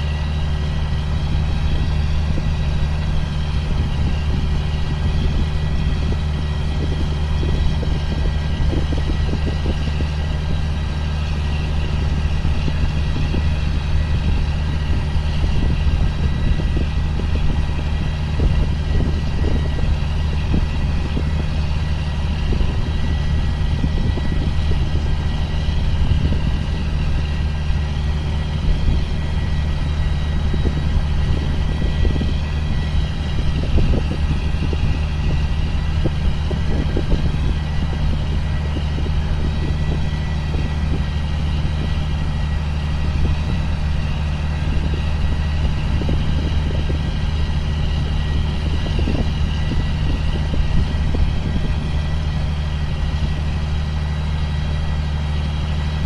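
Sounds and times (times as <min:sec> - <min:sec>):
sprayer engine droning: 0:00.0 - 0:56.0.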